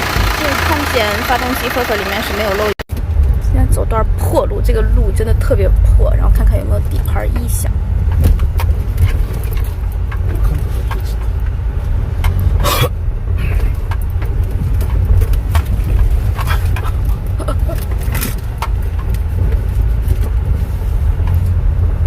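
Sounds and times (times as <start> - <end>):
car cabin road rumble: 0.0 - 22.0
knocks and clicks over bumps: 0.0 - 22.0.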